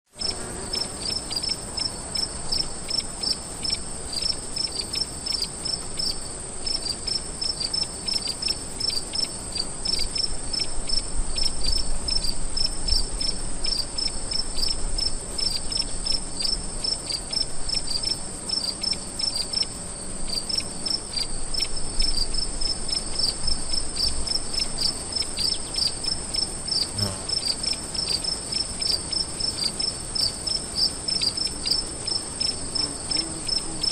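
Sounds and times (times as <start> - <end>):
crickets chirping: 0.1 - 33.9
high-pitched insect trill: 0.1 - 33.9.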